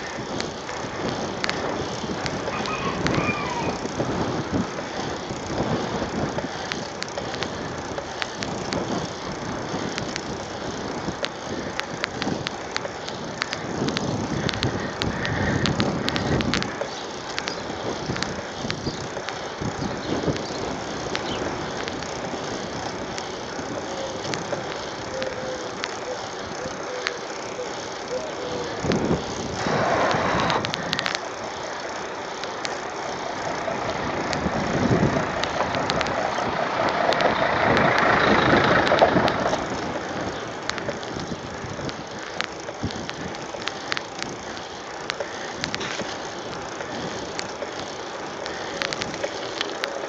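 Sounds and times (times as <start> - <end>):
bike clicking and rattling: 0.0 - 50.0
road and wind noise: 0.0 - 50.0.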